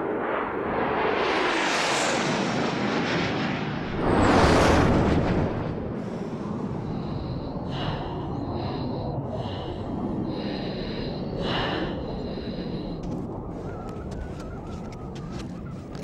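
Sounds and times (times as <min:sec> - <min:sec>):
jet rumble: 0:00.0 - 0:16.0.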